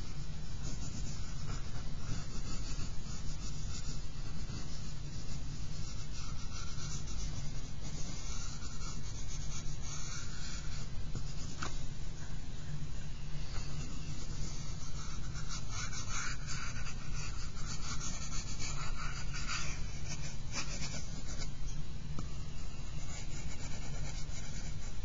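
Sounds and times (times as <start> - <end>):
pencil scratching on paper: 0.0 - 11.8, 13.6 - 21.5, 22.8 - 25.0
steady low hum: 0.0 - 25.0.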